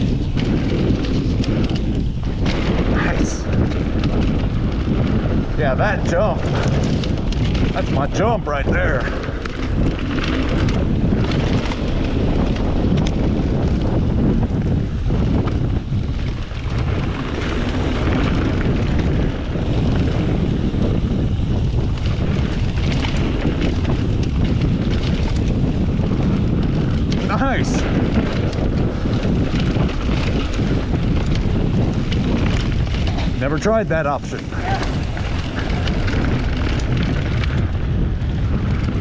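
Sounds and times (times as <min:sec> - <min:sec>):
bike knocking over rough ground: 0:00.0 - 0:14.2, 0:21.4 - 0:39.0
tyres rumbling on dirt: 0:00.0 - 0:39.0
wind rushing over microphone: 0:00.0 - 0:39.0.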